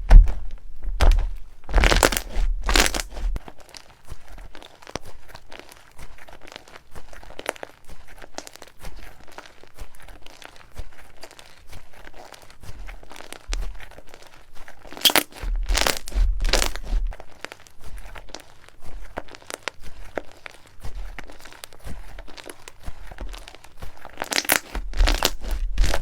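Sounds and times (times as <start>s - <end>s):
slime crunching squishes: 0.0s - 26.0s
slime crackling and popping: 0.1s - 26.0s.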